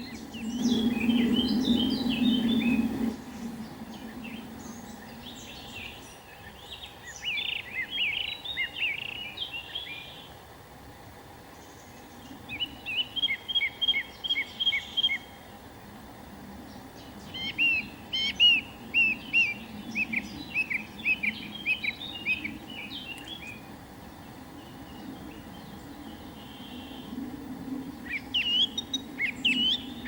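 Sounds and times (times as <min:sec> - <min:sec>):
songbird calling: 0:00.0 - 0:10.4, 0:11.5 - 0:15.9, 0:16.6 - 0:30.0.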